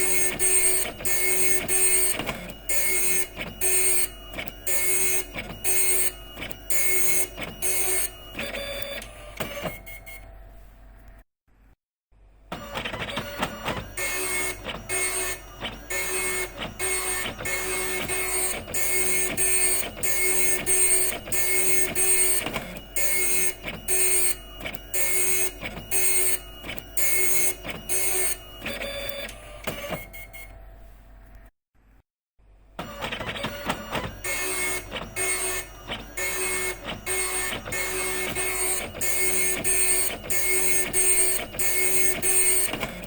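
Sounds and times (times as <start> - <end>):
dot matrix printer printing: 0.0 - 10.4, 12.5 - 30.7, 32.8 - 43.0.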